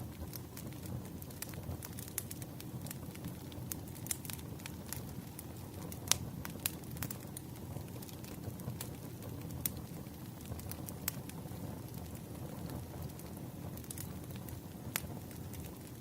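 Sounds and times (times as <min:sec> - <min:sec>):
fire pops: 0:00.0 - 0:16.0
firewood crackling: 0:00.0 - 0:16.0.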